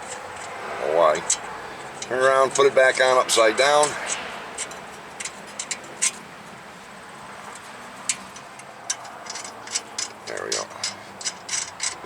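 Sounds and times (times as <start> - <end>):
metallic clicks of nut threading: 0.0 - 0.6, 1.2 - 6.2, 7.4 - 12.0.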